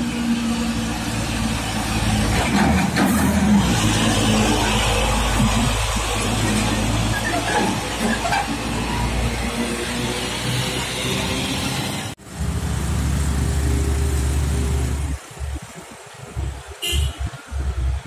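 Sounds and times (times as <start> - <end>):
truck rolling past: 0.0 - 15.8
trucks and scooters engine rumble: 0.0 - 18.0.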